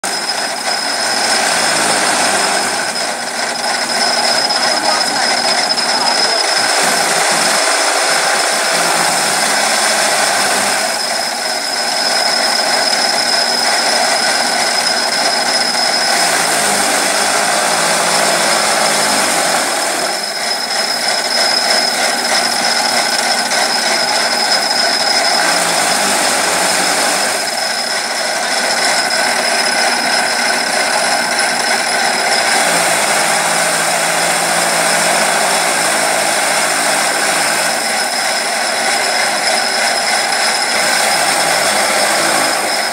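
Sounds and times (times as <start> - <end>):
high machine whine: 0.0 - 42.9.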